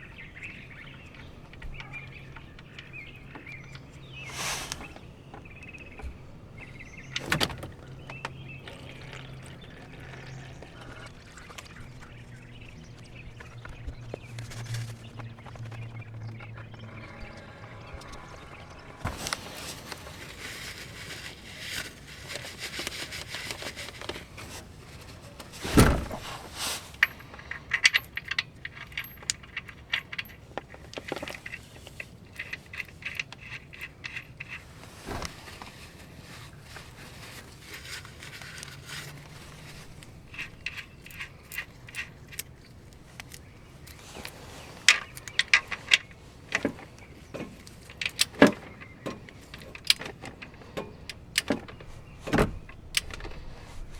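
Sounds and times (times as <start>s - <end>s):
metal tools clinking and scraping: 0.4s - 11.0s, 16.6s - 53.9s.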